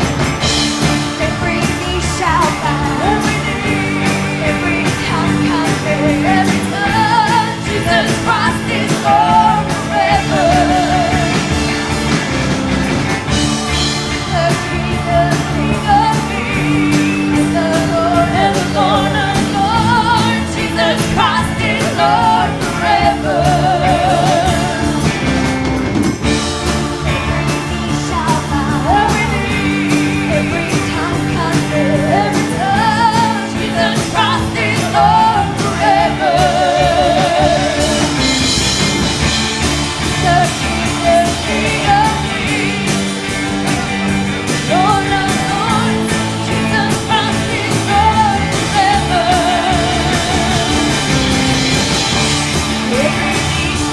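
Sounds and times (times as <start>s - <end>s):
church band music: 0.0s - 53.9s.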